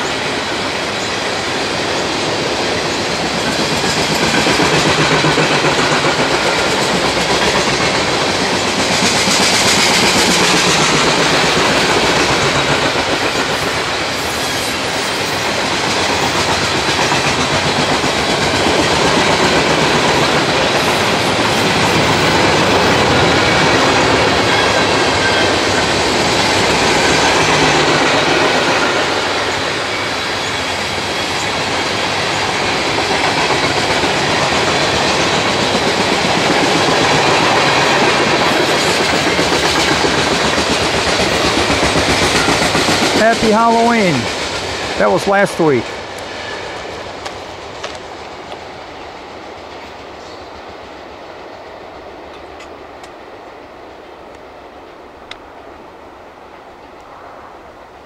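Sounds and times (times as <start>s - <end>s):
train wheels clattering over rail joints: 0.0s - 45.0s, 45.8s - 50.4s.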